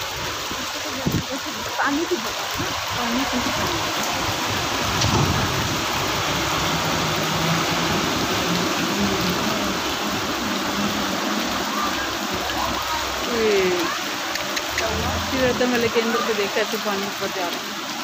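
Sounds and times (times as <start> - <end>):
heavy rain: 0.0 - 18.0
tyres through water: 0.0 - 18.0
vehicle engine hum: 3.1 - 17.6.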